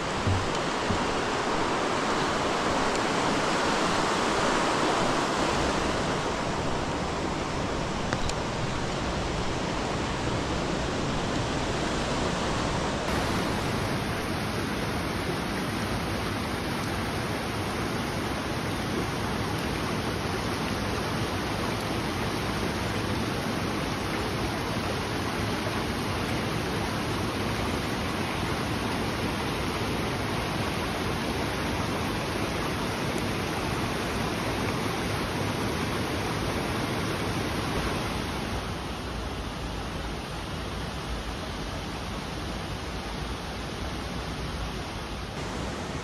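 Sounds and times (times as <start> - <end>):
stream and waterfall rushing: 0.0 - 46.0.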